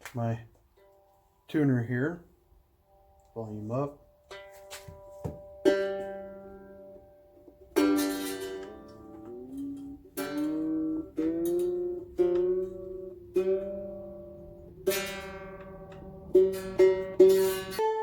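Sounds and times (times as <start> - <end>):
mandolin strings plucked: 2.5 - 18.0.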